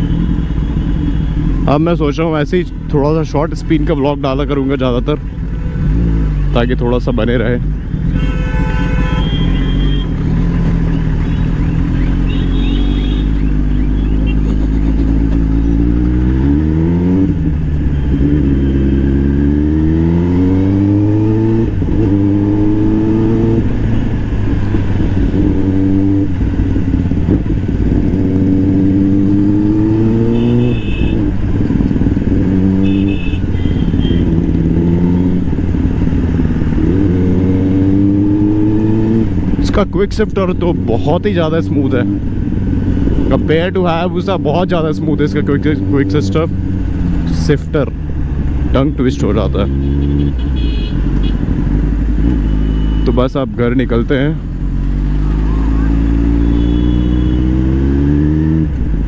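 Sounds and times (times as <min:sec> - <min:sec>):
motorcycle engine accelerating: 0:09.2 - 0:59.0.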